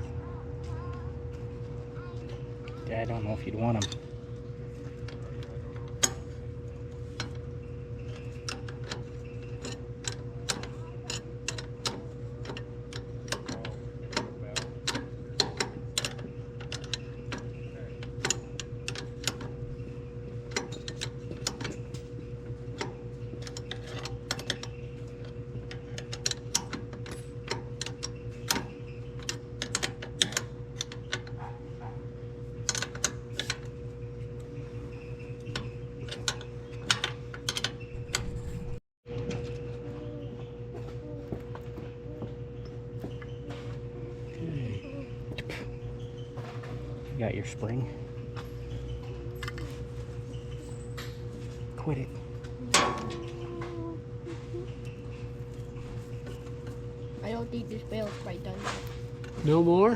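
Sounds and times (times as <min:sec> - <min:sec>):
steady engine hum: 0:00.0 - 0:59.9.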